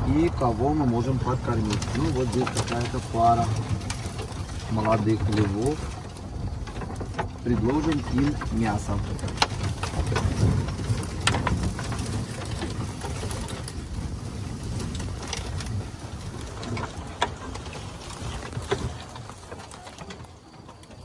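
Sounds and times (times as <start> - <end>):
utility vehicle rumbling: 0.0 - 21.0
vehicle body rattling: 0.0 - 21.0.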